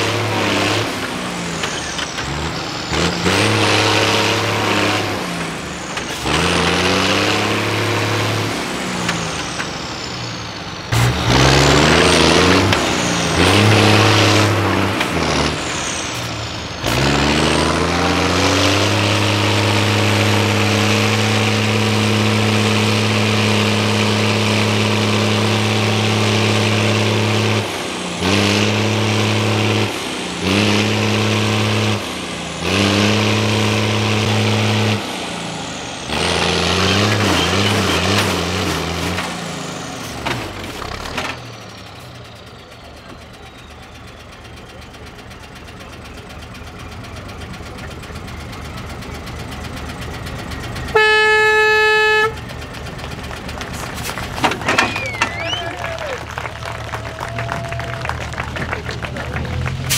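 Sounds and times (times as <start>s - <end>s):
diesel truck engine revving: 0.0s - 59.9s.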